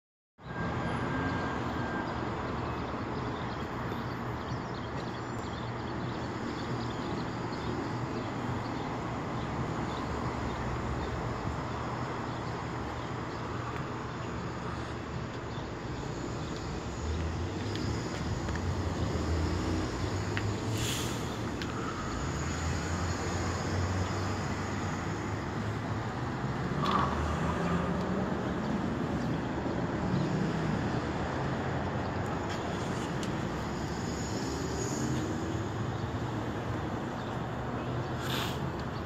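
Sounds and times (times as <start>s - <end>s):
outdoor rumble and hiss: 5.1s - 39.0s.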